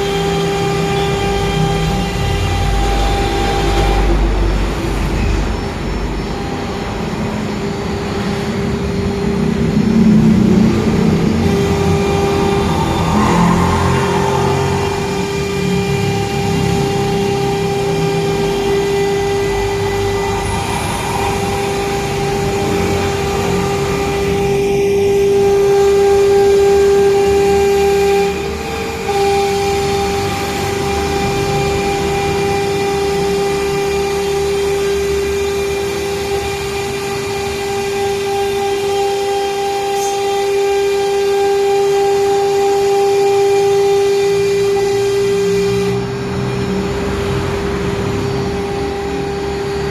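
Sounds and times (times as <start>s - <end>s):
router spindle whining: 0.0s - 49.9s.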